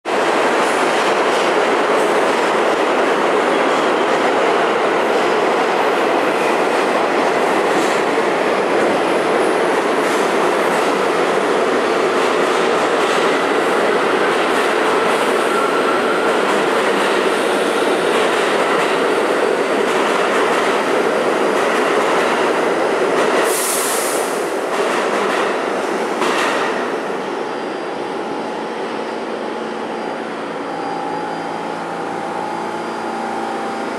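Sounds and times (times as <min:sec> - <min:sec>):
subway train wheels on rails: 0:00.1 - 0:33.9.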